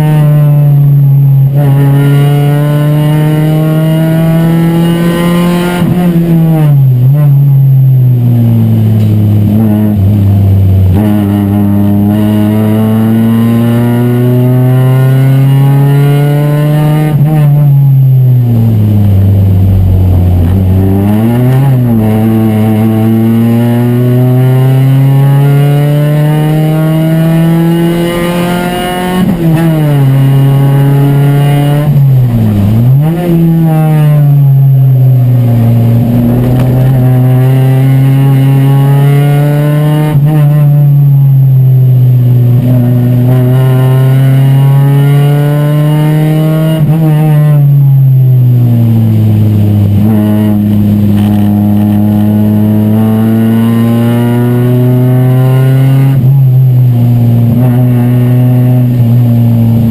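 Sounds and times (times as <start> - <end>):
race car engine at high revs: 0.0 - 59.9.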